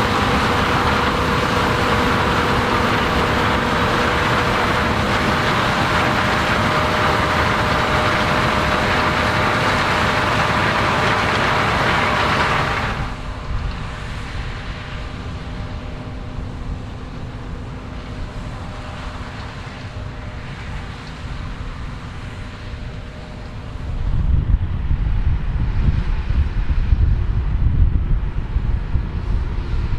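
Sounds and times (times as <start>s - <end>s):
harvest machinery running: 0.0s - 29.9s.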